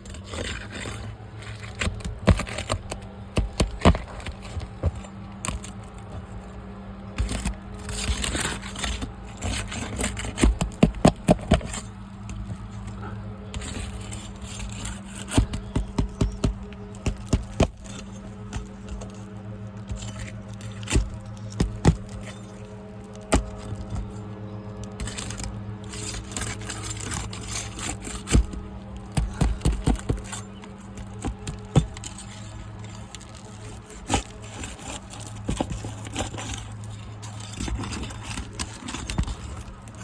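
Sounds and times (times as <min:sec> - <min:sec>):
roof shingles clicking and scraping: 0:00.0 - 0:40.0
steady low hum: 0:00.0 - 0:40.0.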